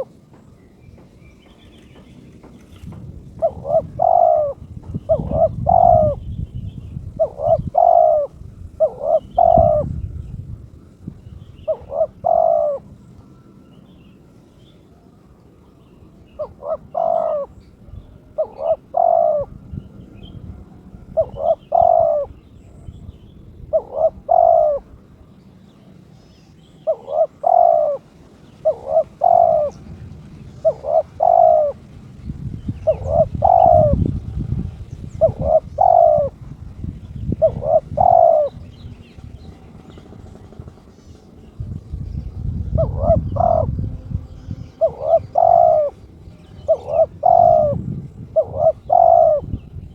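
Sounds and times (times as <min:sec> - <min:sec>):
dove cooing: 0:00.0 - 0:00.2, 0:02.8 - 0:10.2, 0:10.8 - 0:13.1, 0:14.6 - 0:25.3, 0:26.2 - 0:49.9.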